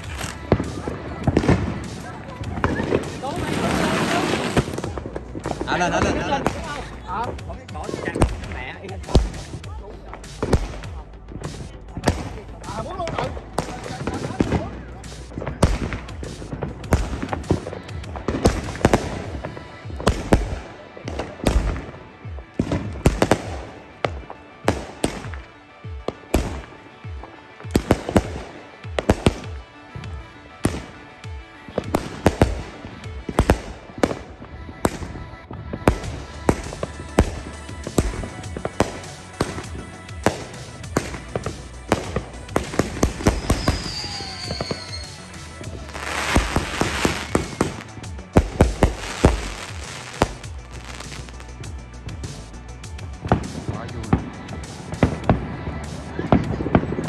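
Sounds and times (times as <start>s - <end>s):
fireworks bangs: 0.0s - 57.0s
fireworks hissing and crackling: 0.0s - 57.0s.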